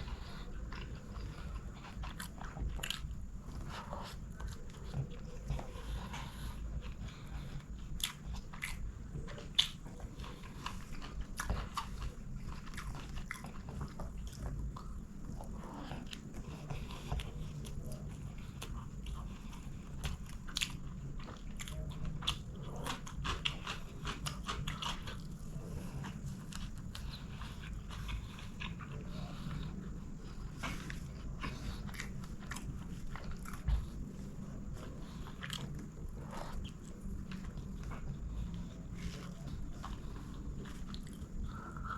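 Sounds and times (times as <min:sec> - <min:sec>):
chewing and biting food: 0:00.0 - 0:41.9.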